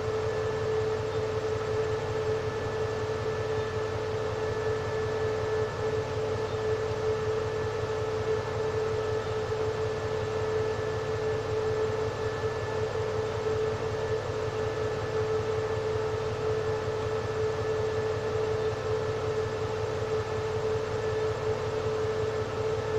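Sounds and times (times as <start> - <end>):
locomotive idling hum: 0.0 - 22.9.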